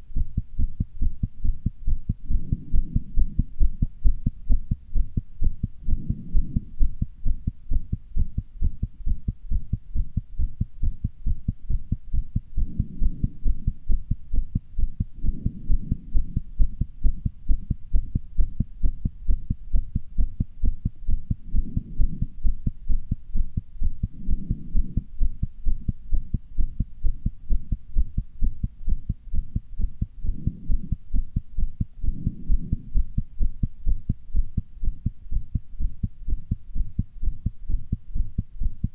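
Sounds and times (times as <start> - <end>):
fast heartbeat thumps: 0.1 - 38.9.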